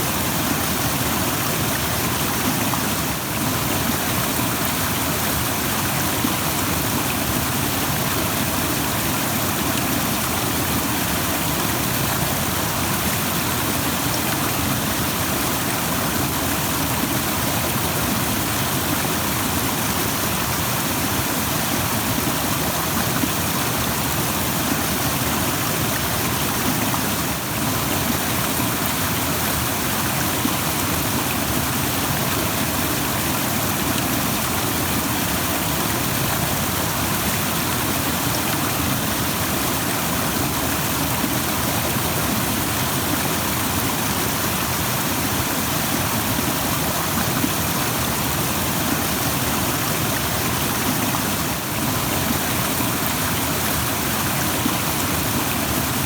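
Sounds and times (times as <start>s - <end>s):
rushing stream: 0.0s - 56.0s.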